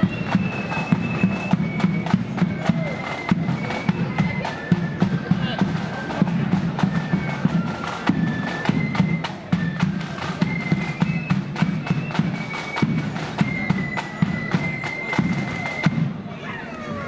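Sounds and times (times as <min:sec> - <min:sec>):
side drums: 0:00.0 - 0:16.3
flutes playing melody: 0:00.0 - 0:17.0.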